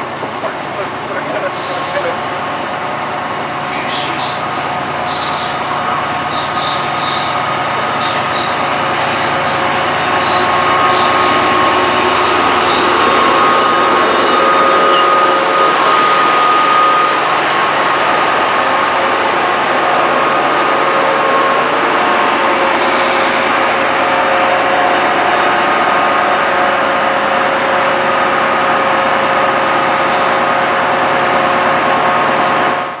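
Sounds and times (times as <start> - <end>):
constant whining tones: 0.0 - 29.8
diesel locomotive idling: 0.0 - 33.0.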